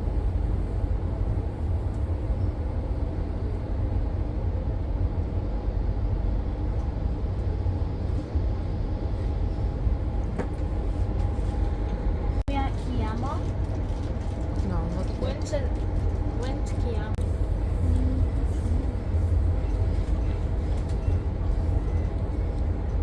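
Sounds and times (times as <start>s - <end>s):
electric train rumbling: 0.0s - 23.0s
train multi-tone hum: 0.0s - 23.0s.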